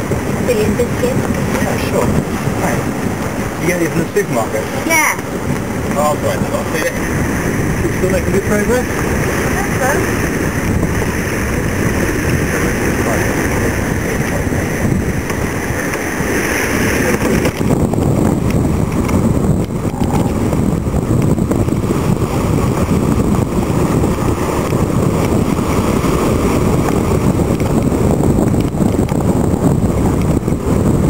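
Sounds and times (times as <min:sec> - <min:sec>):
churning water rushing: 0:00.0 - 0:31.0
wind buffeting the microphone: 0:00.0 - 0:31.0.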